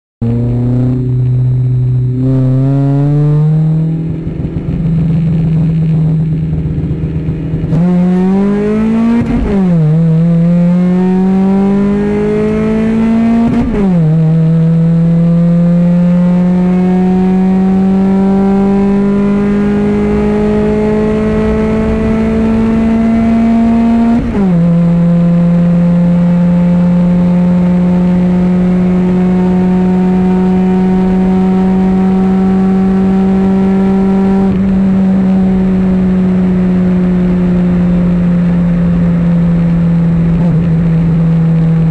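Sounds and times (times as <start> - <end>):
car engine revving through gears: 0.2 - 41.9.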